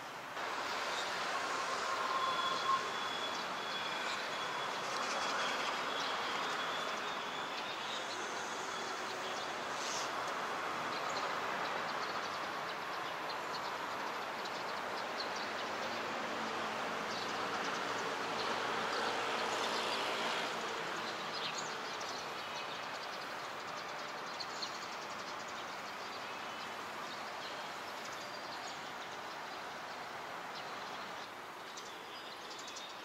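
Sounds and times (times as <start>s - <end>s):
distant traffic hum: 0.0s - 33.0s.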